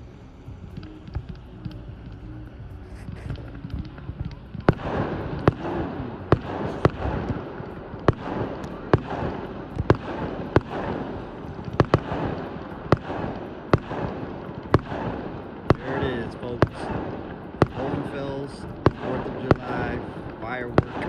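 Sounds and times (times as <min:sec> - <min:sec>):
fireworks bangs: 0:02.9 - 0:21.0.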